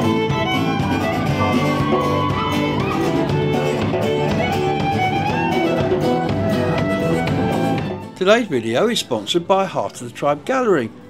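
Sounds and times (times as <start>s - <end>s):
fiddle melody: 0.0s - 11.0s
guitar accompaniment: 0.0s - 11.0s.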